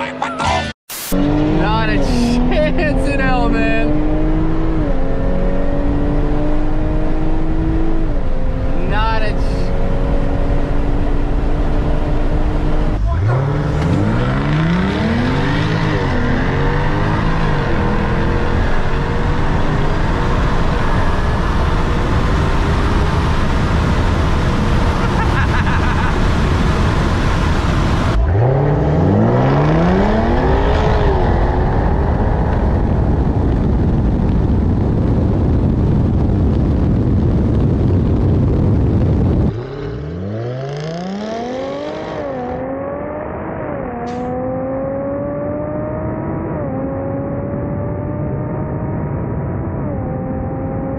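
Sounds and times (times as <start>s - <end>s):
car engine accelerating: 0.0s - 50.9s
wind and road noise: 0.0s - 50.9s.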